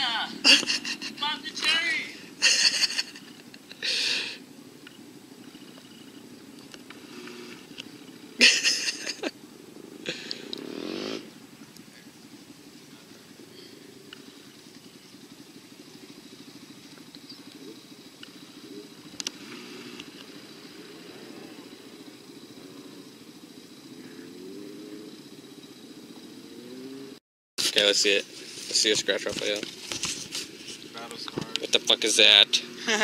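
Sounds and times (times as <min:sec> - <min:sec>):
dirt bike engine idling: 0:00.0 - 0:33.0.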